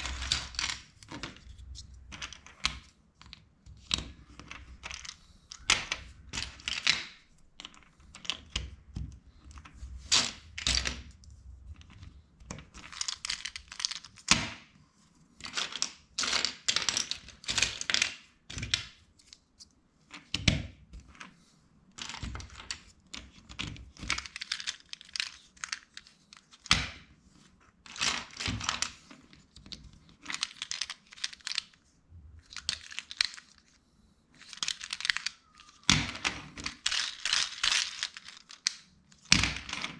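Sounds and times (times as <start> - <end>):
plastic bricks rattling and clicking: 0.0 - 14.5, 15.4 - 19.4, 22.0 - 27.0, 27.9 - 31.8, 32.4 - 33.8, 34.4 - 39.9.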